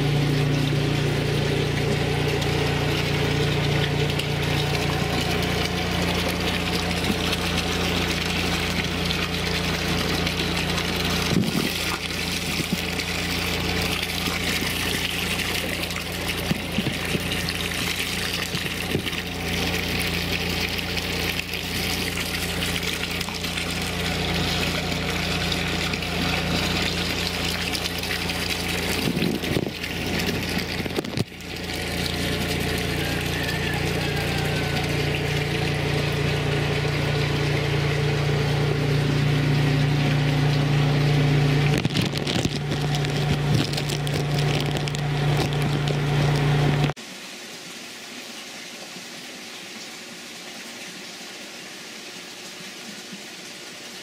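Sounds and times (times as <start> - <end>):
low steady hum: 0.0 - 48.2
water rushing and splashing: 0.0 - 54.0.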